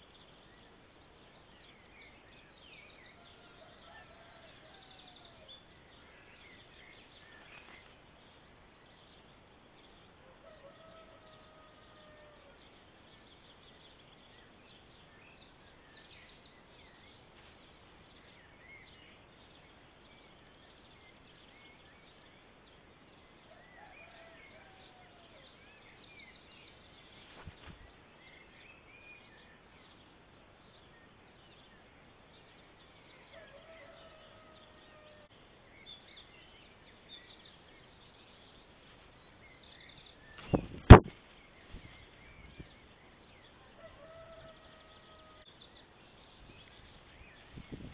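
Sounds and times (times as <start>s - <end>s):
faint outdoor hiss: 0.0s - 47.9s.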